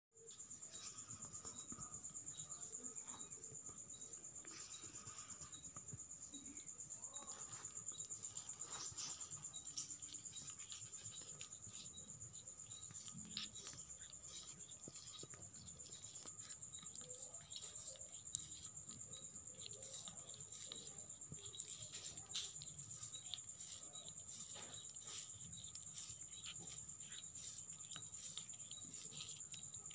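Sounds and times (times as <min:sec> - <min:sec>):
kitten licking fur: 0:00.7 - 0:29.9.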